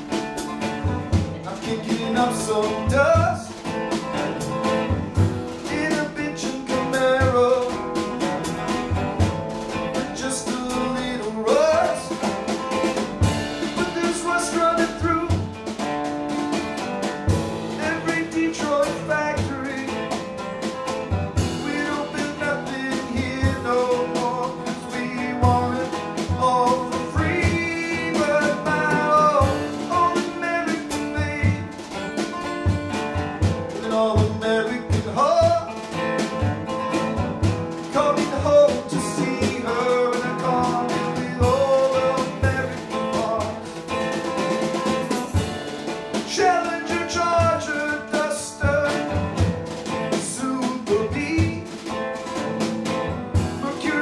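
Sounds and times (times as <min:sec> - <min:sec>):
man singing: 0:00.0 - 0:16.1, 0:17.3 - 0:54.0
strummed acoustic guitar: 0:00.0 - 0:54.0.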